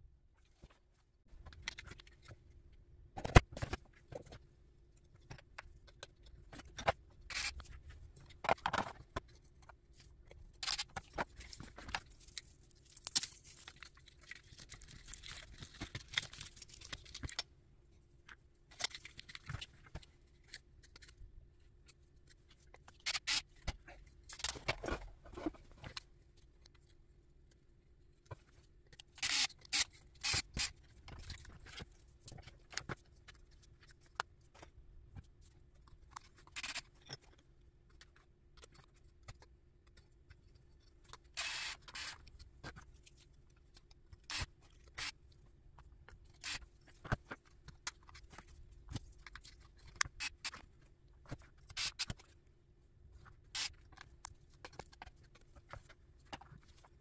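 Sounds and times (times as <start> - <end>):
scrapes and clicks of parts handled: 0.4 - 2.6, 3.2 - 17.5, 18.2 - 52.5, 53.2 - 57.0.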